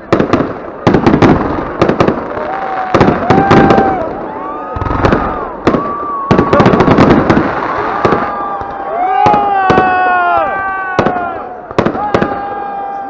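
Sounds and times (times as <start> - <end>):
fireworks banging and crackling: 0.0 - 13.0
fireworks whistling: 0.0 - 13.0.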